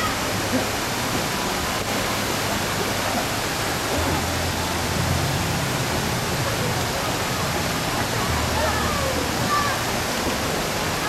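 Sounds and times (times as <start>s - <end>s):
water falling and splashing: 0.0s - 11.0s.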